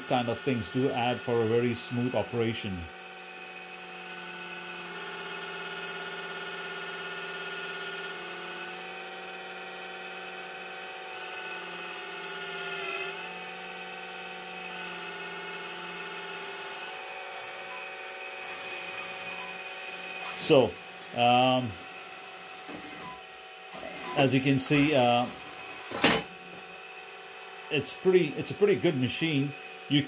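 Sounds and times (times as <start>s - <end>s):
hydraulic pump whining: 0.0s - 30.0s.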